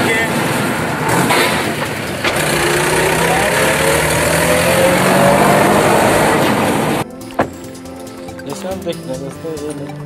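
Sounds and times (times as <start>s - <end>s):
tractor diesel engine running: 0.0s - 8.4s.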